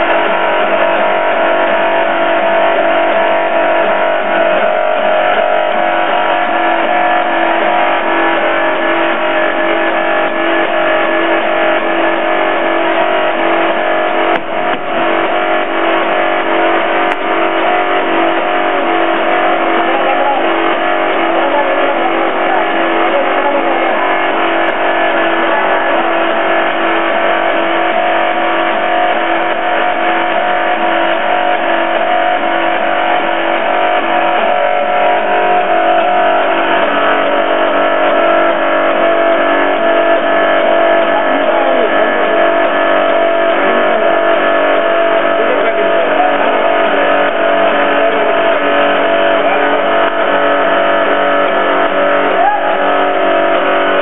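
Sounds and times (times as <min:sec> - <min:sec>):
hydraulic power pack droning: 0:00.0 - 0:54.0.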